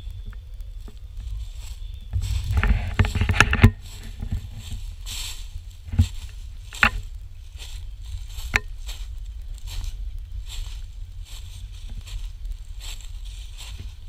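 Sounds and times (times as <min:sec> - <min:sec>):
footsteps crunching dry leaves: 0:00.0 - 0:14.0
low steady rumble: 0:00.0 - 0:14.0.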